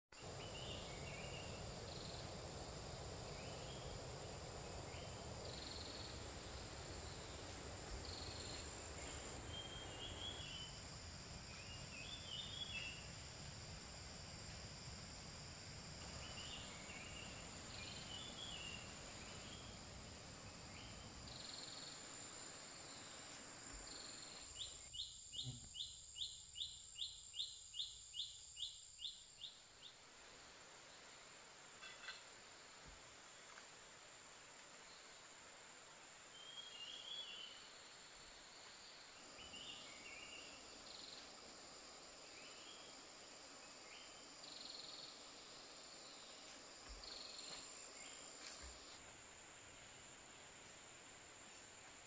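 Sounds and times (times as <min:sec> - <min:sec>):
high insect drone: 0:00.2 - 0:52.0.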